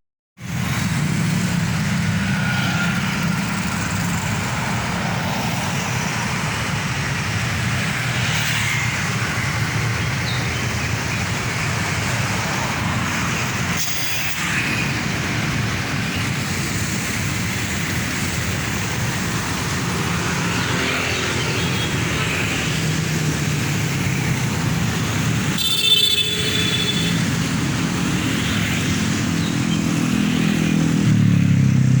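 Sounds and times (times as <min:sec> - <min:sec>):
road traffic: 0:00.4 - 0:32.0.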